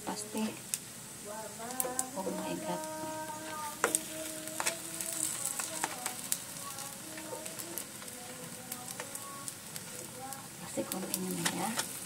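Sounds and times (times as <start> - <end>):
cakes sizzling in a grill pan: 0.0 - 12.0.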